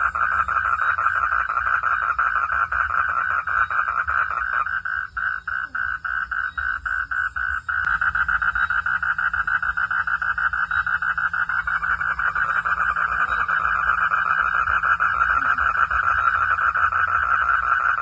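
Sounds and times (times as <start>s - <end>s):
faint low hum: 0.0s - 18.0s
frogs calling in pulsed chorus: 0.0s - 18.0s.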